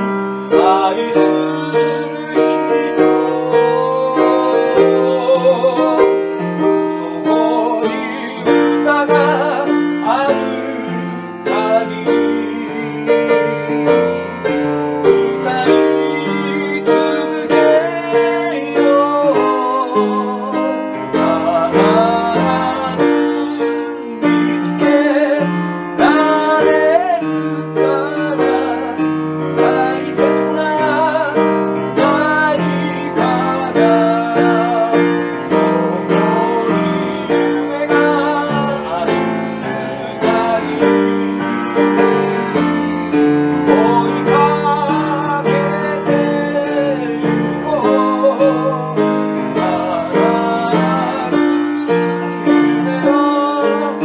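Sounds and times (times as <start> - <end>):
man singing with vibrato: 0.0 - 54.0
piano accompaniment: 0.0 - 54.0.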